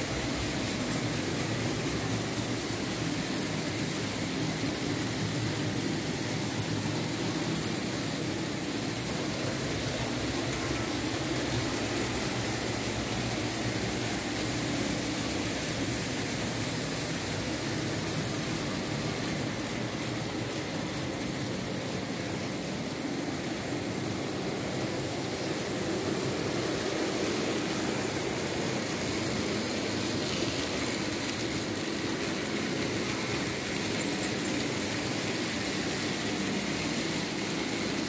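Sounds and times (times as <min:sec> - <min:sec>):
wheels rolling on rails: 0:00.0 - 0:38.0.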